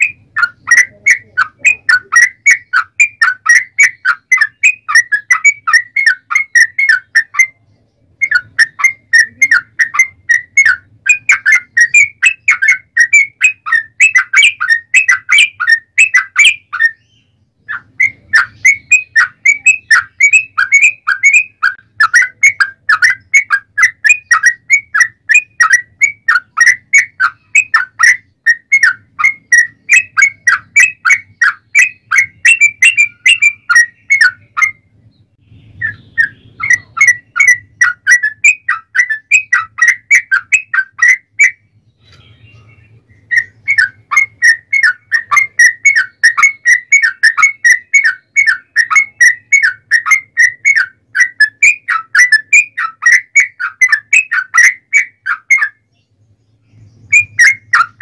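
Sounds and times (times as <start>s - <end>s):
bird singing rapid chattering song: 0.0s - 58.0s.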